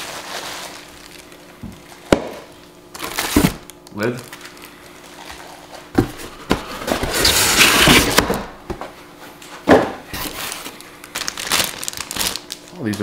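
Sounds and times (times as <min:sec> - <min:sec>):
cardboard packaging rustling: 0:00.0 - 0:02.2, 0:02.9 - 0:08.8, 0:10.1 - 0:12.9.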